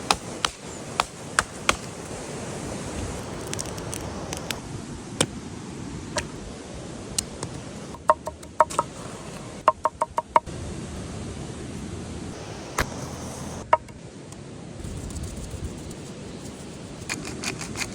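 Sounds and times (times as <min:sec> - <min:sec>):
steady rushing hiss: 0:00.0 - 0:09.7, 0:10.4 - 0:17.9.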